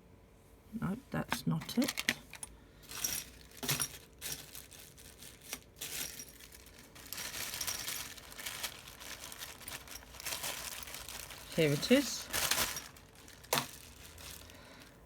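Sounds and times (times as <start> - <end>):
small tools clicking and clinking: 1.4 - 4.5, 5.5 - 14.4
crinkly packaging rustling: 1.4 - 15.0.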